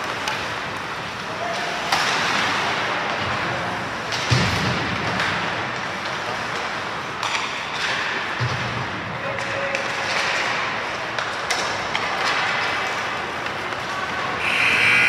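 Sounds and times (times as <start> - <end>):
hockey game crowd din: 0.0 - 15.0.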